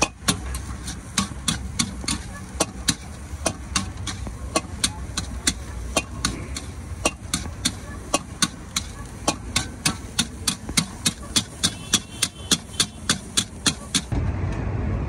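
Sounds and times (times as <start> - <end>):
metal spatula clanking on wok: 0.0 - 14.0.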